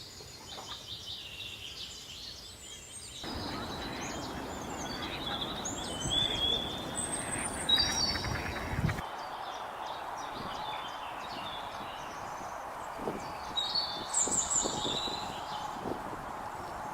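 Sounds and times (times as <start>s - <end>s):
small birds chirping: 0.0s - 16.9s
steady outdoor hiss: 0.0s - 16.9s.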